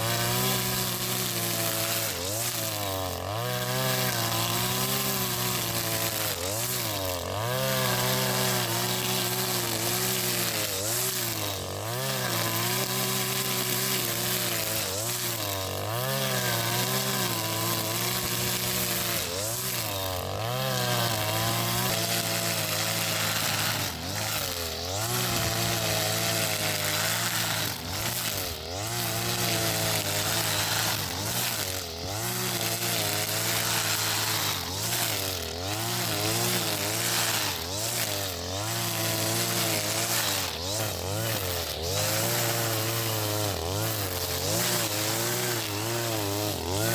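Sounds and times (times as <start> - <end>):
brushcutter engine running: 0.0 - 46.9.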